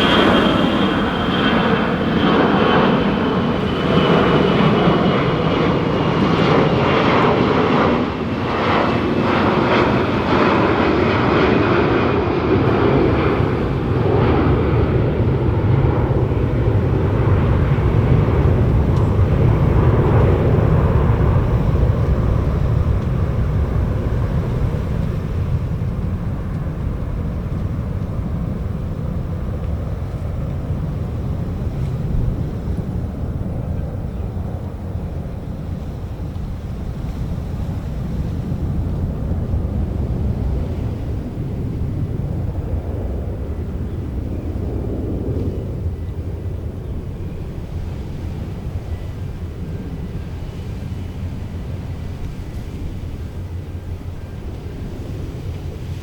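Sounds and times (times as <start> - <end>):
jet airliner engines at takeoff: 0.0 - 56.0.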